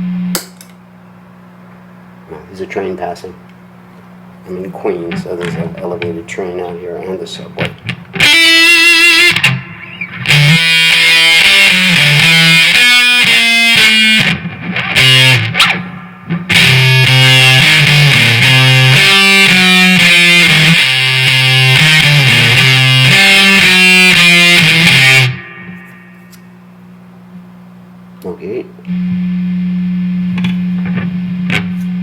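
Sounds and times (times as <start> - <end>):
distorted electric guitar riffing: 4.5 - 26.6, 28.2 - 32.0.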